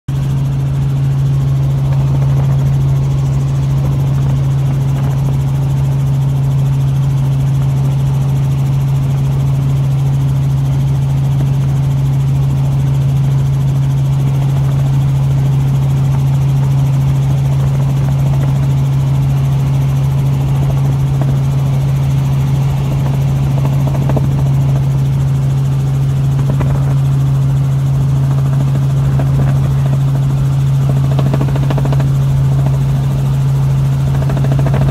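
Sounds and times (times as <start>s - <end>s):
rotor drone: 0.1s - 34.9s.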